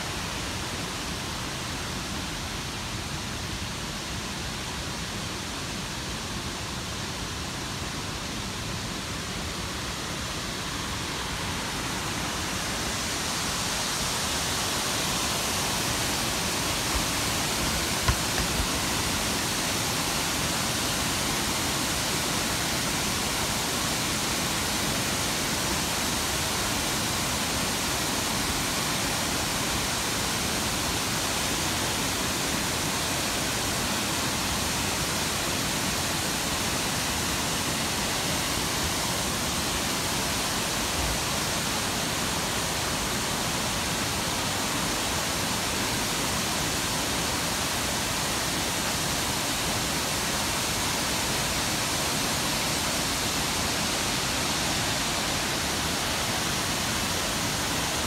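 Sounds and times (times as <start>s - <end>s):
waterfall rushing: 6.9s - 58.0s.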